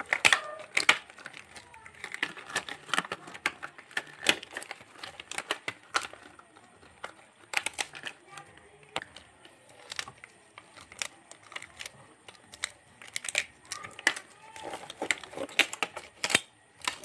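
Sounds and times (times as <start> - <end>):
examination gloves rustling and snapping: 0.0 - 17.0.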